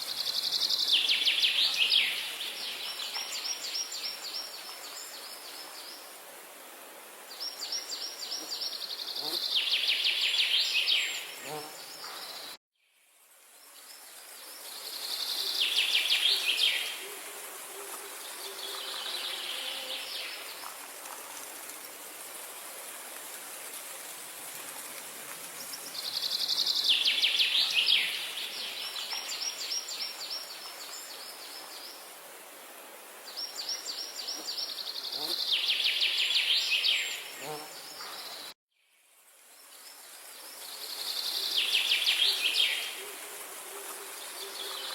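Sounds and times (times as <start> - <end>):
outdoor hiss: 0.0 - 44.9.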